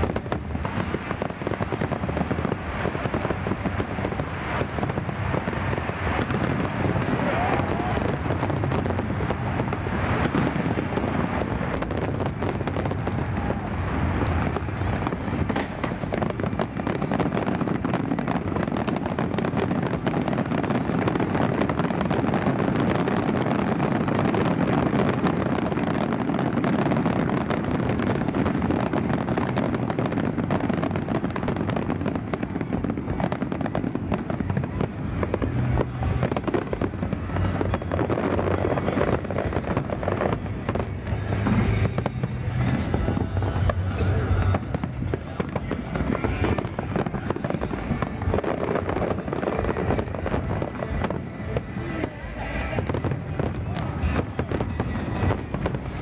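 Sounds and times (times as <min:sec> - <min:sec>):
aerial fireworks bursting: 0:00.0 - 0:56.0.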